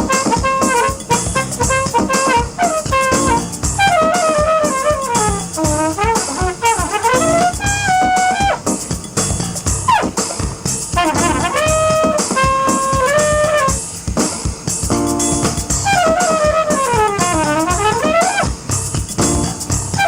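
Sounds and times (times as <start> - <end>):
trumpet melody: 0.0 - 14.0, 15.1 - 20.0
drum beat: 0.0 - 20.0.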